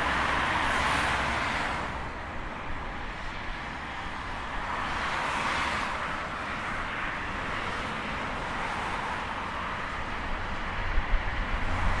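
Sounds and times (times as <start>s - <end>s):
tyre noise of passing vehicles: 0.0s - 12.0s.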